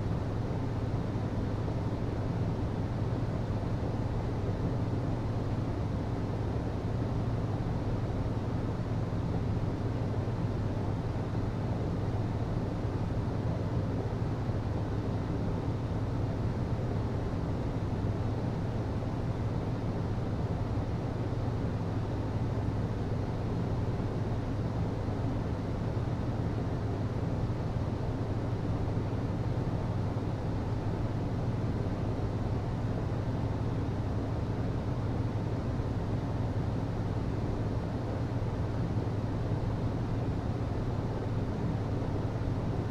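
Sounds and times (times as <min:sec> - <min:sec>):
hvac system humming and rushing: 0:00.0 - 0:42.9.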